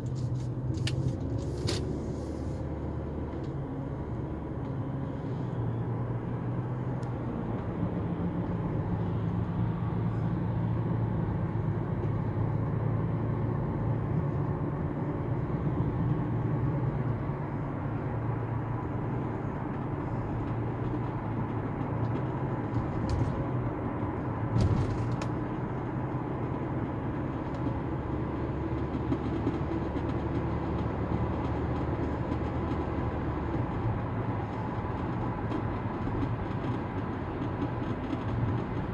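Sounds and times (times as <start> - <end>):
moving vehicle rumble: 0.0 - 38.9.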